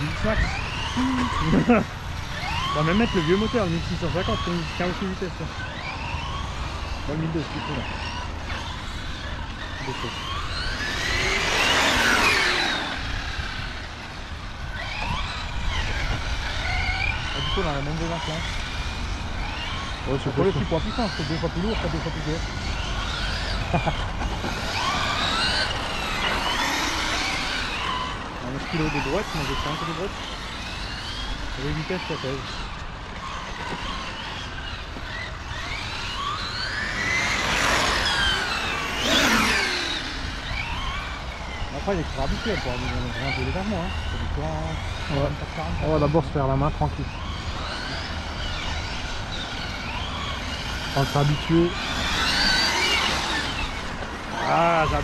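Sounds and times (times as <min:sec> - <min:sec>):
rc car motor whine: 0:00.0 - 0:55.0.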